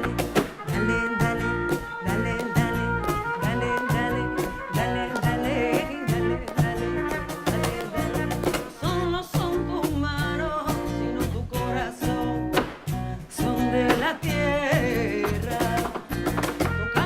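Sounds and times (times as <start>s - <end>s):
person singing: 0.0s - 17.0s
strummed guitar: 0.0s - 17.0s.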